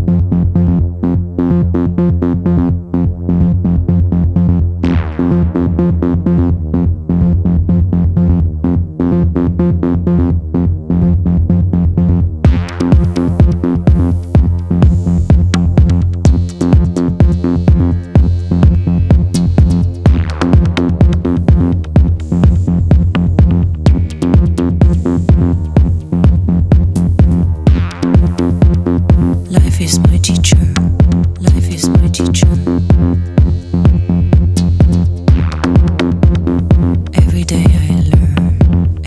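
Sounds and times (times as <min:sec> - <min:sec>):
electronic music with synthesizer: 0:00.0 - 0:39.0.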